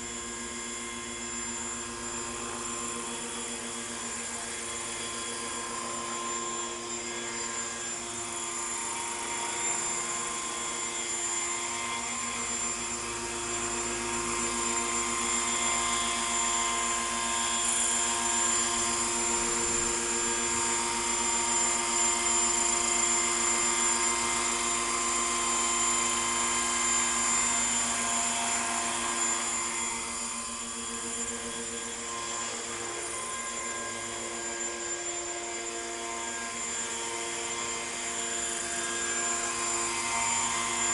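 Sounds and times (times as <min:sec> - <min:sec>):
model helicopter whine: 0:00.0 - 0:40.9.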